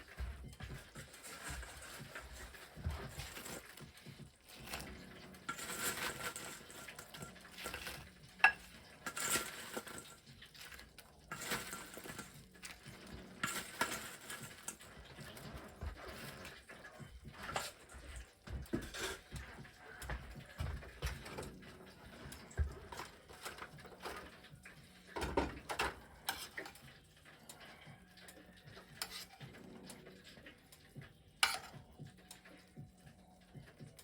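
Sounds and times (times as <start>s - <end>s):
utensils clinking and scraping dishes: 0.0s - 32.9s.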